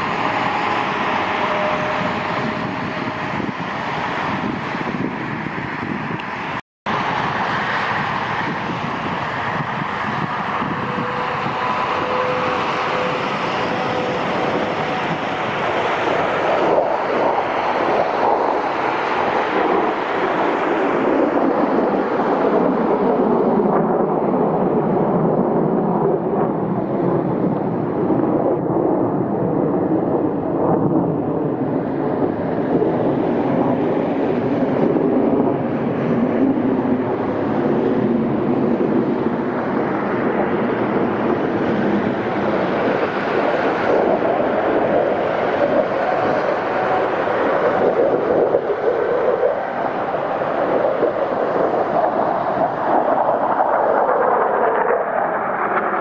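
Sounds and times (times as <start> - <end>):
jet engines rumbling overhead: 0.0 - 56.0.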